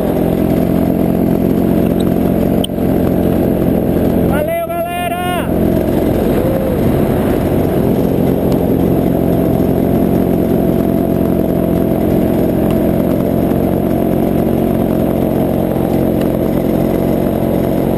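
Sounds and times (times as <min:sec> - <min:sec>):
paramotor engine and propeller: 0:00.0 - 0:17.9.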